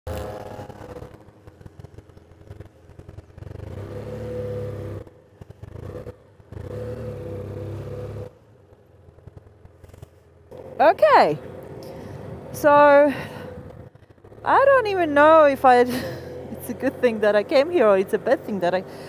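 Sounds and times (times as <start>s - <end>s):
motorcycle engine revving: 0.1s - 19.0s.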